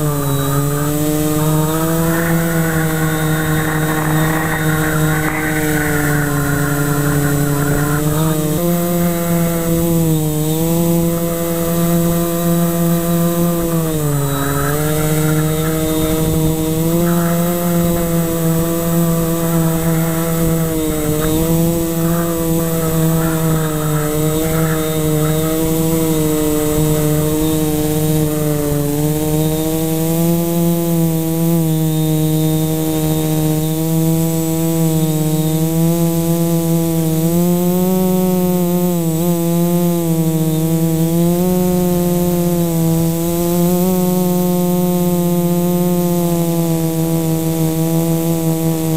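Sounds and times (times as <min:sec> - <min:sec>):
quadcopter motors buzzing: 0:00.0 - 0:48.9.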